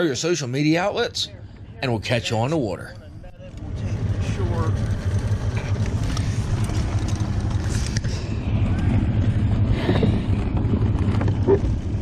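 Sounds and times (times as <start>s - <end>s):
boat motor rumbling: 1.0s - 12.0s.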